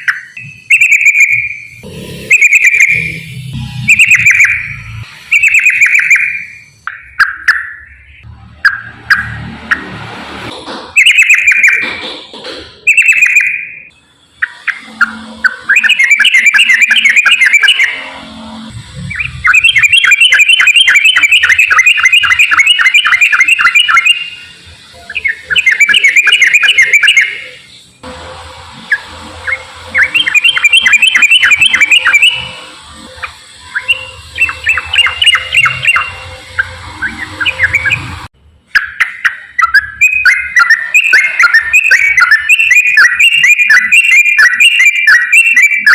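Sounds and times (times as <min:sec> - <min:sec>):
bulbul chattering song: 0:00.0 - 0:10.1, 0:10.9 - 0:12.1, 0:12.7 - 0:45.9.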